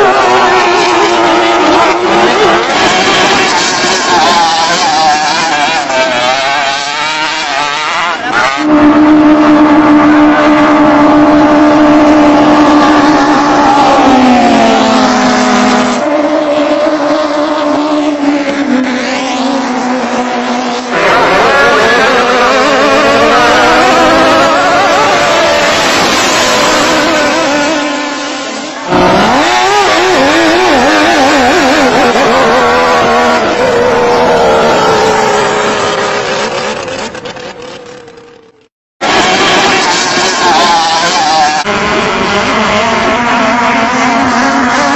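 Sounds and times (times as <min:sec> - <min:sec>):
boat engine at high revs: 0:00.0 - 0:44.9.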